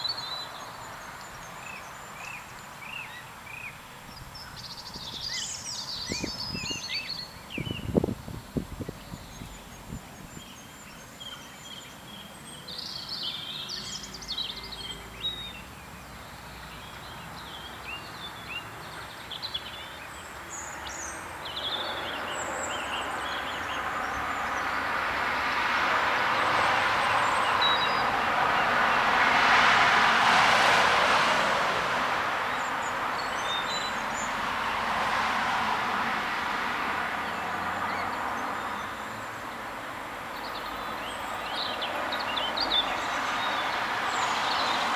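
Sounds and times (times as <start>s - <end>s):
small birds chirping: 0.0s - 25.5s, 26.4s - 28.8s, 32.5s - 34.8s, 37.2s - 44.9s.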